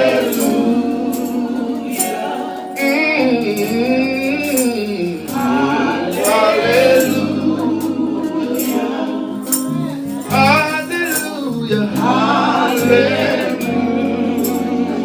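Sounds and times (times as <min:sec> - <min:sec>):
held instrumental notes: 0:00.0 - 0:15.0
person singing gospel melody: 0:00.0 - 0:15.0.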